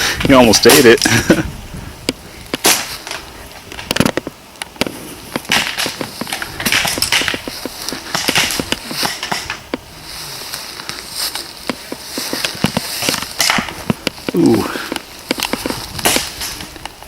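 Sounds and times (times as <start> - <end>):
rustling: 0.0 - 17.0
sharp cracks and pops: 0.2 - 1.3, 2.0 - 17.0.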